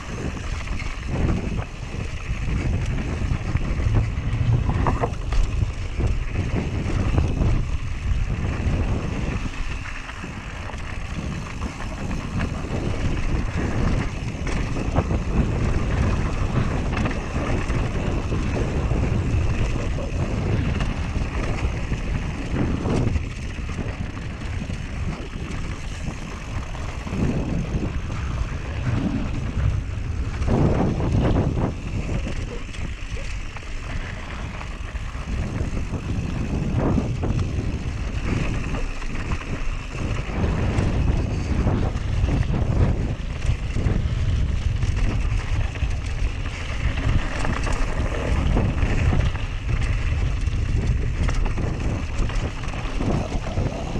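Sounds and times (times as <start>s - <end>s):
bike rattling over bumps: 0.0s - 53.9s
bike tyre noise on dirt trail: 0.0s - 53.9s
wind buffeting microphone: 0.0s - 53.9s.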